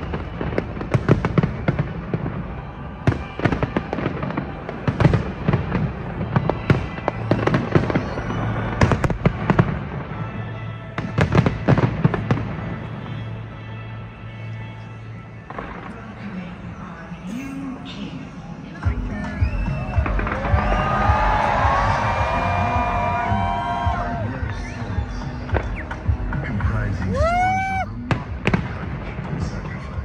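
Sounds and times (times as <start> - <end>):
fireworks bangs and crackles: 0.0 - 13.6, 15.4 - 16.8, 17.9 - 30.0.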